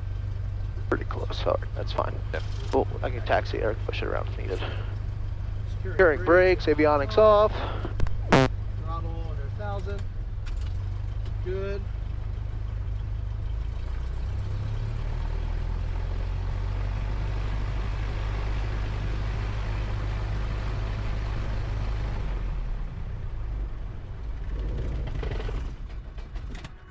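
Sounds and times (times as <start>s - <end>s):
propeller plane engine idling: 0.0s - 14.2s, 16.2s - 26.8s.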